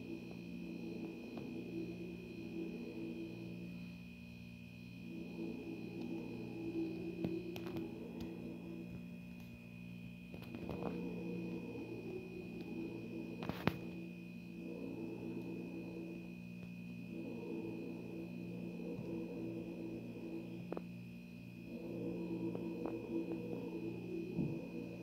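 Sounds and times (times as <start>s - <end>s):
electrical hum: 0.0s - 25.0s
thin high whine: 0.0s - 25.0s.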